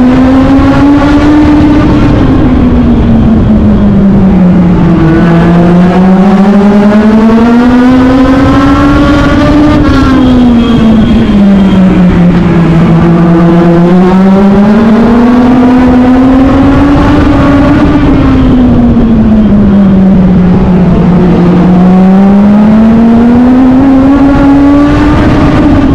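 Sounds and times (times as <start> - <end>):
motorcycle engine at racing speed: 0.0 - 25.9.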